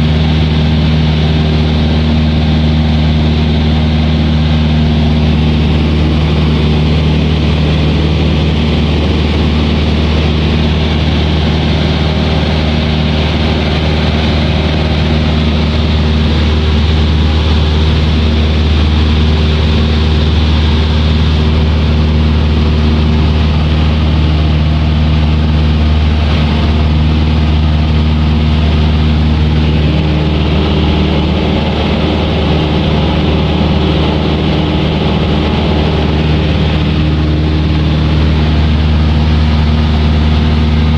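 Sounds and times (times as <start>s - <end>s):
aircraft engine droning: 0.0s - 40.9s.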